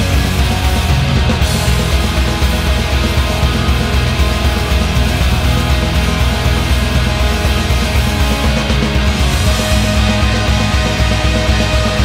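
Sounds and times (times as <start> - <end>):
fast low drum pulse: 0.0 - 12.0
loud metal band music: 0.0 - 12.0.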